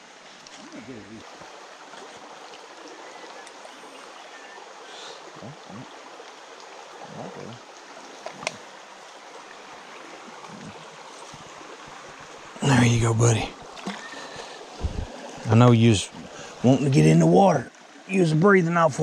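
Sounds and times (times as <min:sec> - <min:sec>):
stream flowing over stones: 0:00.0 - 0:19.0.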